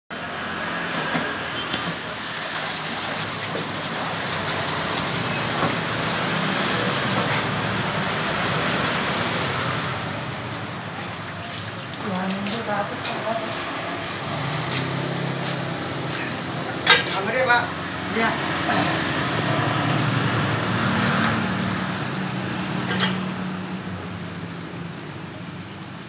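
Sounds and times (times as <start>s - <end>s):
water splashing in a tank: 0.1s - 26.0s.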